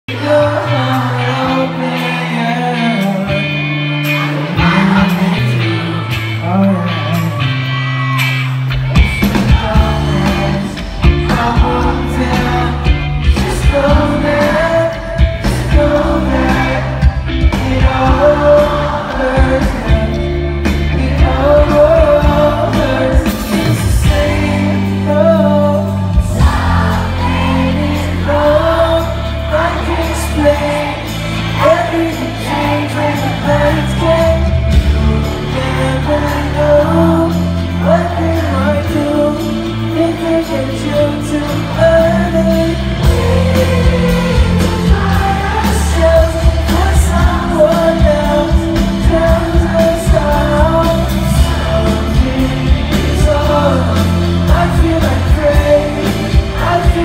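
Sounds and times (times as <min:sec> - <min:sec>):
bass and drums: 0:00.1 - 0:57.0
electric guitar: 0:00.1 - 0:57.0
live band playing: 0:00.1 - 0:57.0
male lead singer: 0:00.1 - 0:57.0.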